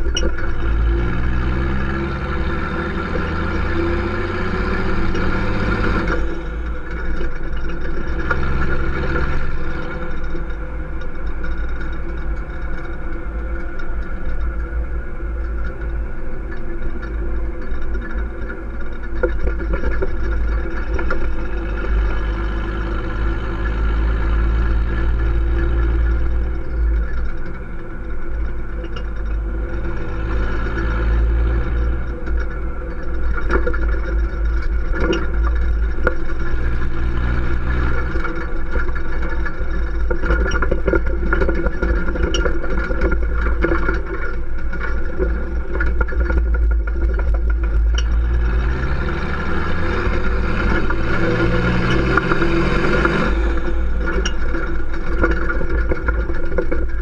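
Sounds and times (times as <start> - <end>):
diesel truck exhaust driving: 0.0 - 57.0.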